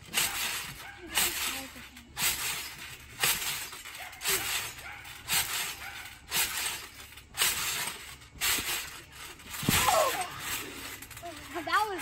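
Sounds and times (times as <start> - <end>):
trampoline bouncing: 0.0 - 12.0.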